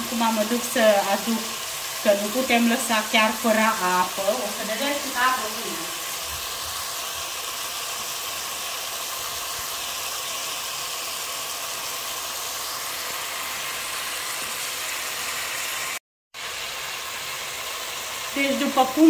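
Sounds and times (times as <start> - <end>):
meat sizzling in a pan: 0.0 - 19.0.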